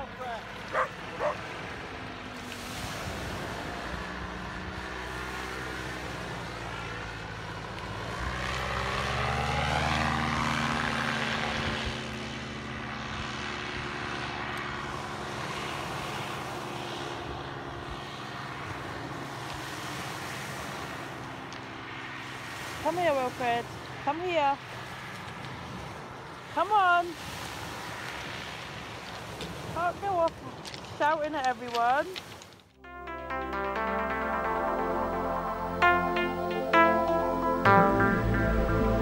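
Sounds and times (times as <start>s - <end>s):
paramotor engine droning overhead: 0.0s - 28.7s, 32.9s - 39.0s.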